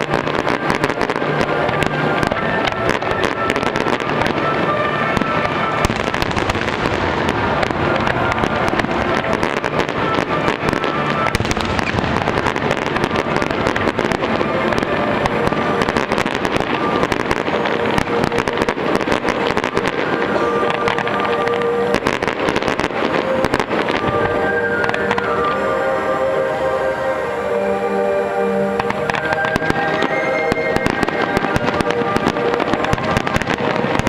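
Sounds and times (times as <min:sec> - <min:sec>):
firework shell bursts and crackling: 0:00.0 - 0:26.6, 0:28.6 - 0:34.0
music playing: 0:00.0 - 0:34.0.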